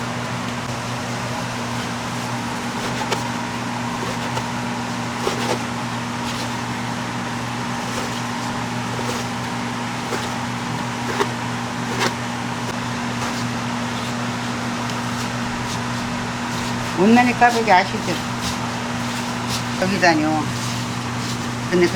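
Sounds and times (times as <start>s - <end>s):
electric motor humming: 0.6s - 21.9s.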